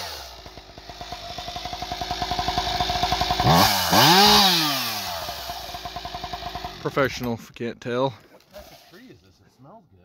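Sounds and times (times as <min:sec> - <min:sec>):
chainsaw idling and revving: 0:00.0 - 0:07.6, 0:08.5 - 0:09.1.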